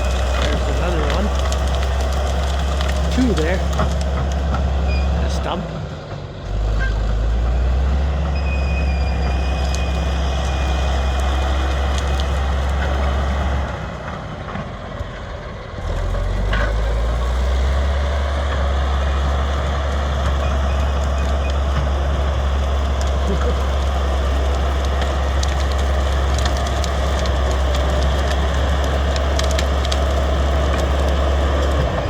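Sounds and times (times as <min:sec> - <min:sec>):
bulldozer diesel engine droning: 0:00.0 - 0:32.0.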